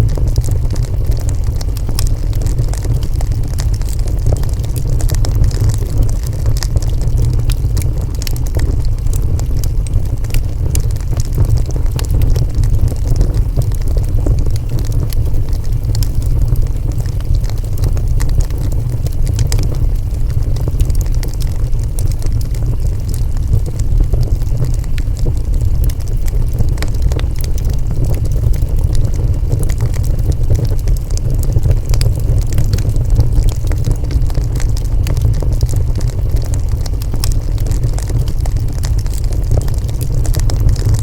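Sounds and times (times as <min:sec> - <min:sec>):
fire crackling and popping: 0:00.0 - 0:41.0
fire roaring: 0:00.0 - 0:41.0.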